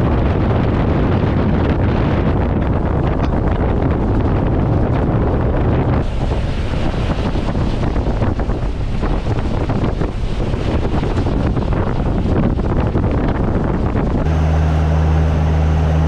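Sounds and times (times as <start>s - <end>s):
boat engine noise: 0.0s - 16.0s
rushing water: 0.0s - 16.0s
wind buffeting microphone: 0.0s - 16.0s.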